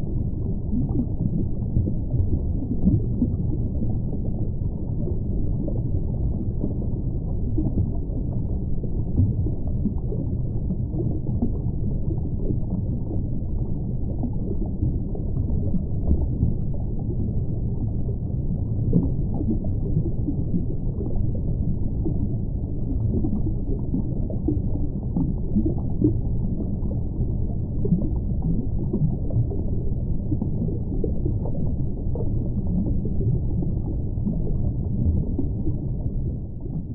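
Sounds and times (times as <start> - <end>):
aquarium filter water flow: 0.0 - 36.9.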